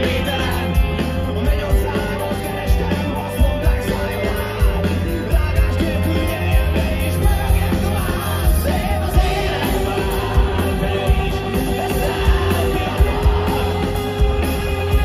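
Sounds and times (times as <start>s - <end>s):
live rock band: 0.0s - 15.0s
man singing: 0.0s - 15.0s.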